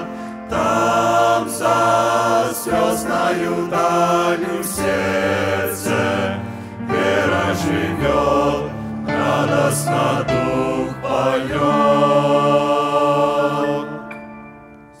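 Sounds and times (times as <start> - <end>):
vocal group singing a hymn: 0.0 - 14.4.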